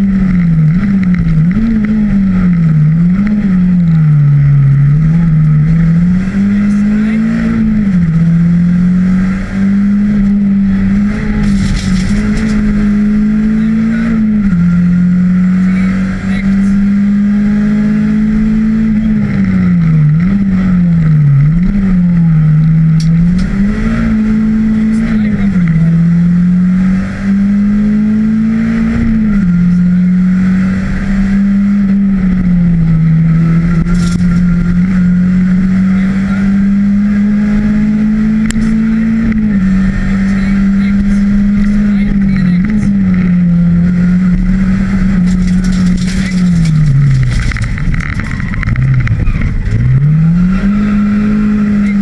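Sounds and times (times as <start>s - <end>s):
car engine revving high: 0.0s - 52.0s.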